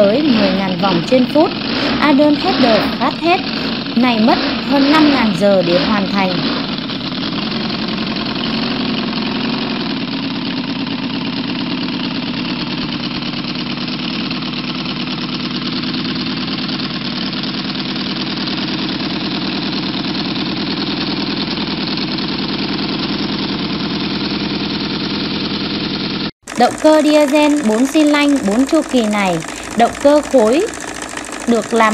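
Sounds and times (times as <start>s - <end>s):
model engine running: 0.0s - 31.9s.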